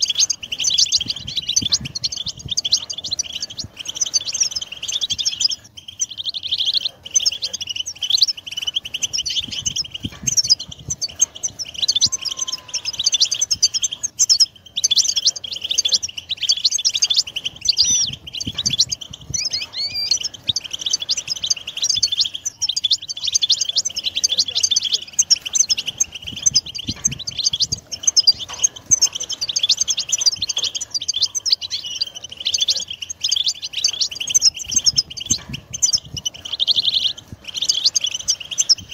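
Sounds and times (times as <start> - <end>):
finches twittering: 0.0 - 38.9.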